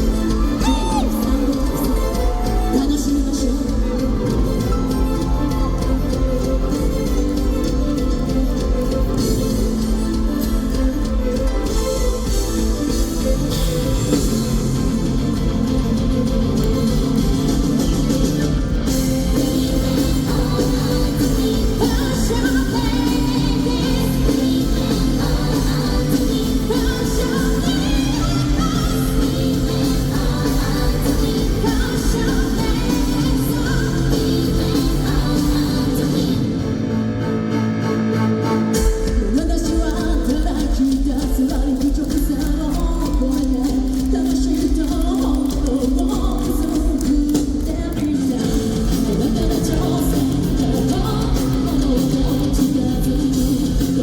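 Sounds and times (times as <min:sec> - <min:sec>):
woman singing lead vocals: 0:00.0 - 0:37.4, 0:38.7 - 0:54.0
bass and drums: 0:00.0 - 0:54.0
live rock band playing: 0:00.0 - 0:54.0.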